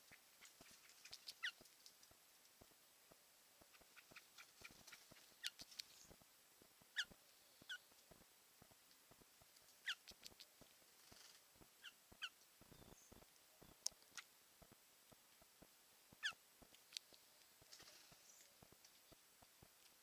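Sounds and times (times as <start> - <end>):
faint clicking: 0.4 - 20.0.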